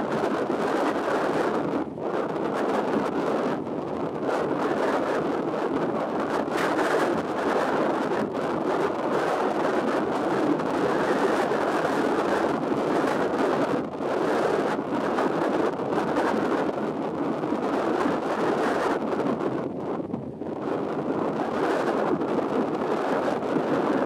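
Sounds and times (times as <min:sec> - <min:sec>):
strong wind blowing: 0:00.0 - 0:24.0.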